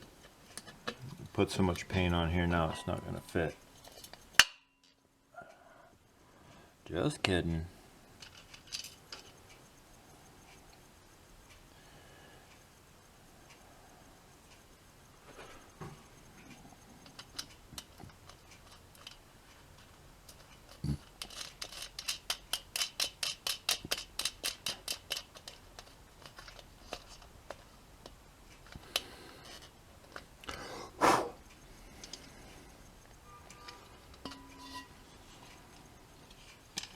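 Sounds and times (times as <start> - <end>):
light clicks of clock parts: 0.2 - 7.6, 8.2 - 13.7, 14.3 - 30.6, 31.4 - 36.9.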